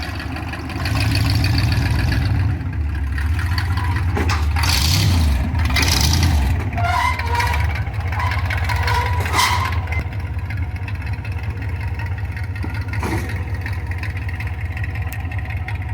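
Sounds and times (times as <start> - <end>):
car engine low rumble: 0.0 - 15.9.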